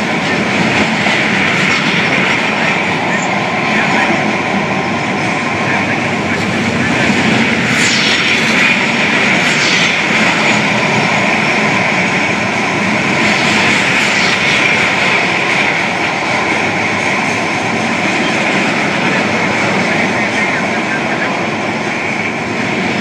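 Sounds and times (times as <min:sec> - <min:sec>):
freight train rolling past: 0:00.0 - 0:23.0.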